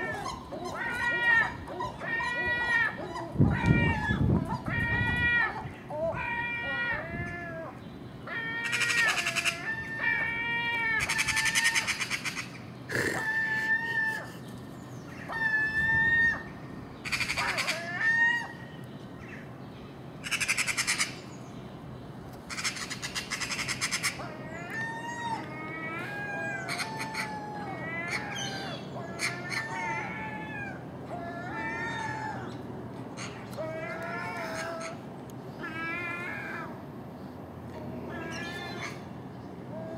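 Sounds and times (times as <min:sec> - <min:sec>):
gulls mewing: 0:00.0 - 0:21.4, 0:22.5 - 0:39.9.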